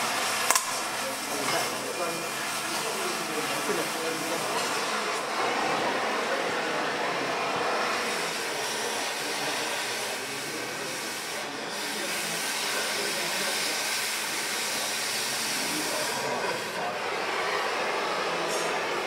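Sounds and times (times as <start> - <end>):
gas cutting torch hissing: 0.0 - 19.0.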